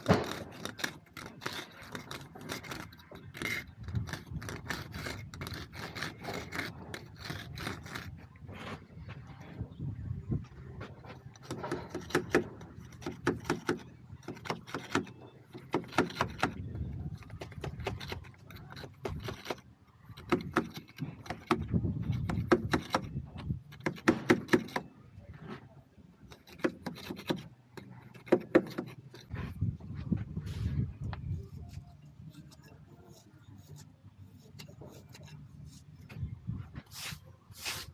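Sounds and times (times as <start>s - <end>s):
bricklaying tools clinking and scraping: 0.0s - 8.9s, 11.0s - 29.6s, 31.4s - 36.3s.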